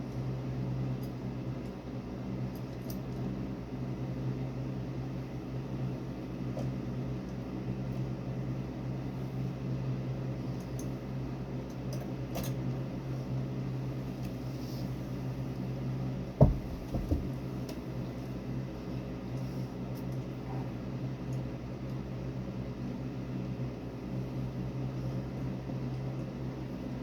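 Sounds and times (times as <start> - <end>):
electric fan motor humming: 0.0 - 27.0.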